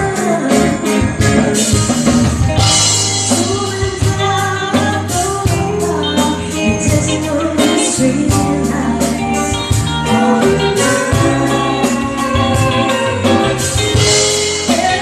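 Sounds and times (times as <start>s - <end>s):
live band playing a song: 0.0s - 15.0s
person singing: 0.0s - 15.0s.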